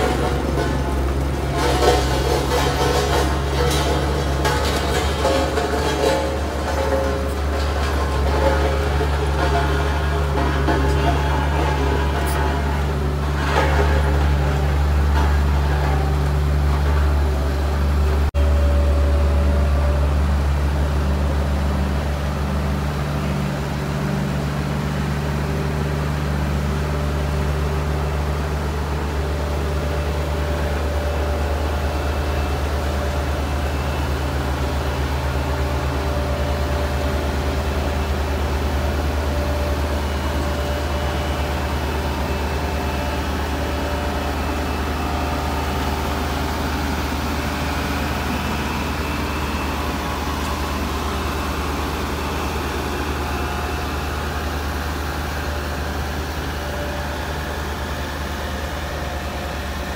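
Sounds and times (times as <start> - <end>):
motor grader running: 0.0 - 59.9
road roller diesel engine: 0.0 - 59.9.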